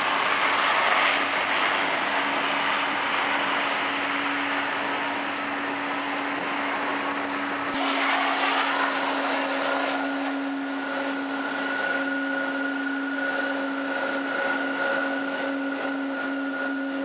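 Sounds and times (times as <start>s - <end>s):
higher jet whine: 0.0s - 17.0s
jet engines idling: 0.0s - 17.0s.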